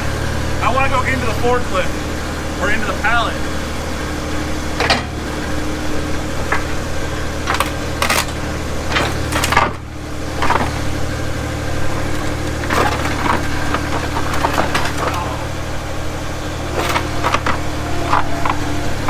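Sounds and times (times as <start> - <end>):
loader engine running: 0.0 - 19.0.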